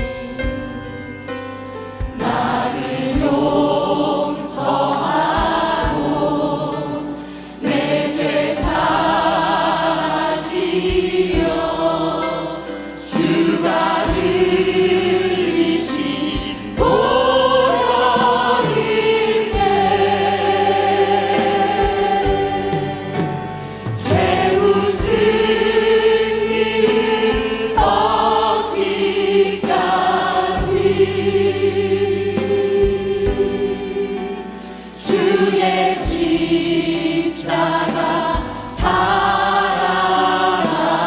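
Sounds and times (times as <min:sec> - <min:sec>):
choir singing a hymn: 0:00.0 - 0:41.0
instrumental accompaniment: 0:00.0 - 0:41.0.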